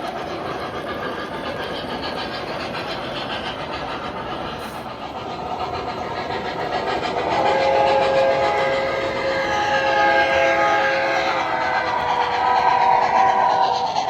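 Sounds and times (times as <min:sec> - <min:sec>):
model train rumbling on track: 0:00.0 - 0:14.0.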